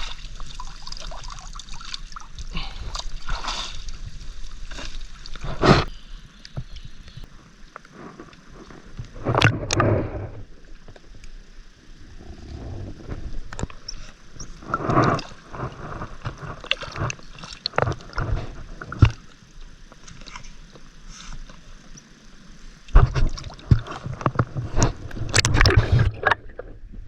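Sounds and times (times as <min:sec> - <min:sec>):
water sloshing and trickling: 0:00.0 - 0:26.9.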